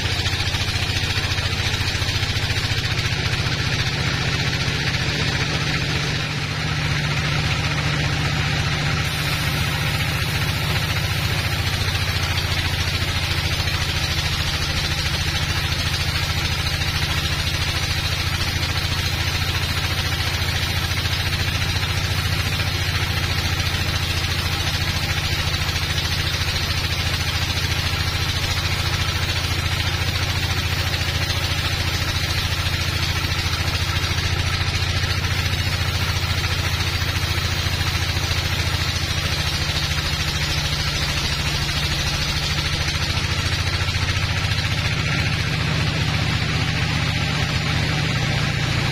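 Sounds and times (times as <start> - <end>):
bandsaw drone: 0.0 - 48.9.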